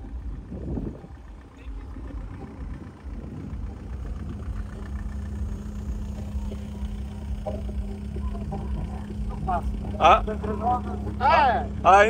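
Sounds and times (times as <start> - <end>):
car engine idling: 0.0 - 12.0
low hum: 0.0 - 12.0.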